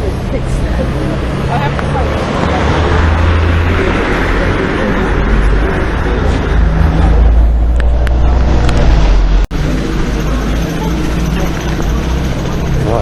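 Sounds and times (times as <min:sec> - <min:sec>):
road traffic rushing by: 0:00.0 - 0:13.0.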